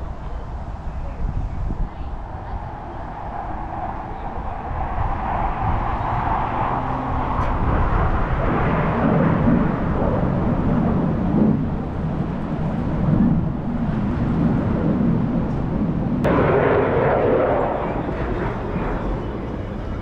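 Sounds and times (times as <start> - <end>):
jet flying past: 0.1 - 20.0.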